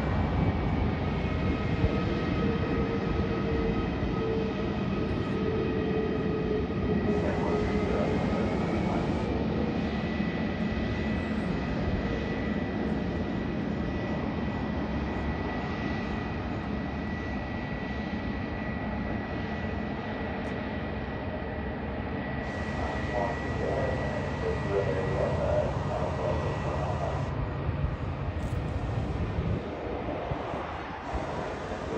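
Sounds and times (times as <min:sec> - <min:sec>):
jet engines rushing: 0:00.0 - 0:31.9.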